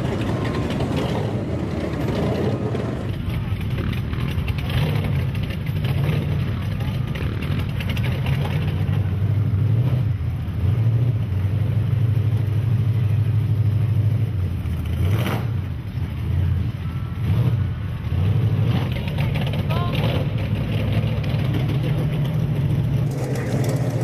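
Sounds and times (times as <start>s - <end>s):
truck engine running low: 0.0s - 24.0s.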